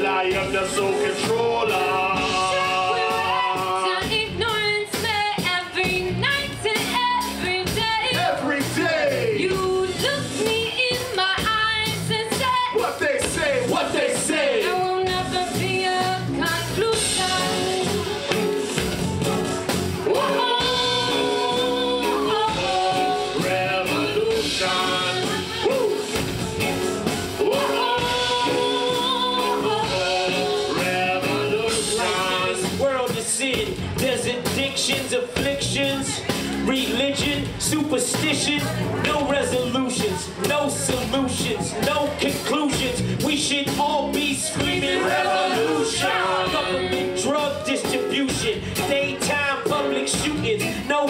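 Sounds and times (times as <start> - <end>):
person singing: 0.0 - 18.6, 20.0 - 26.7, 27.4 - 51.0
live band playing: 0.0 - 51.0.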